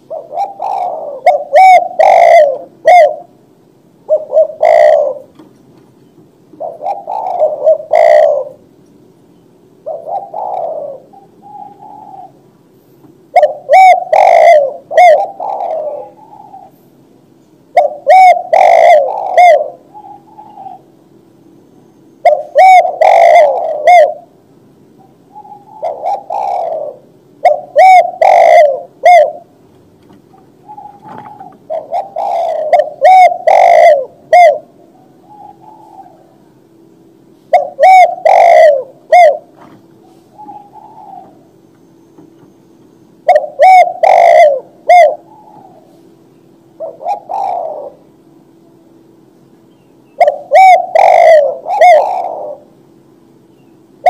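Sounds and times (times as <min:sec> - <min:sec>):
dove cooing: 0:00.0 - 0:05.5, 0:06.5 - 0:08.8, 0:09.6 - 0:17.0, 0:17.7 - 0:21.4, 0:22.2 - 0:24.4, 0:25.0 - 0:29.6, 0:30.2 - 0:54.0.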